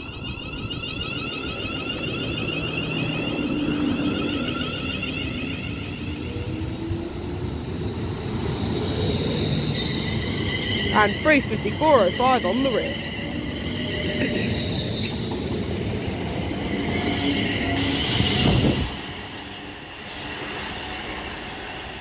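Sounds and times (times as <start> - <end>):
traction motor whine: 0.0 - 19.0
train wheels rumbling on rails: 0.0 - 22.0.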